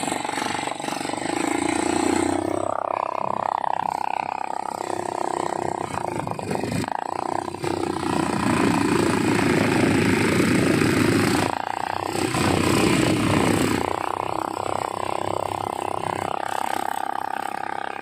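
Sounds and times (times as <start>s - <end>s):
atv engine under throttle: 0.0s - 18.0s.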